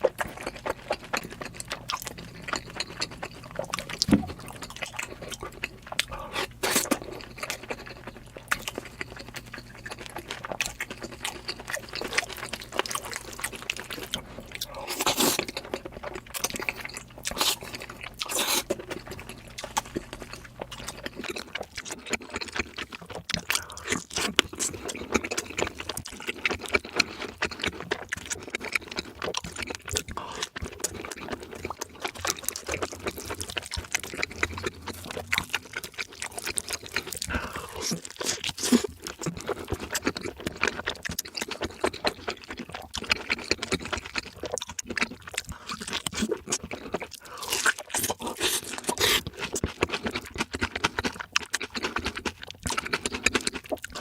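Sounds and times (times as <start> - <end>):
faint low hum: 0.0 - 54.0
person chewing and eating: 0.0 - 54.0.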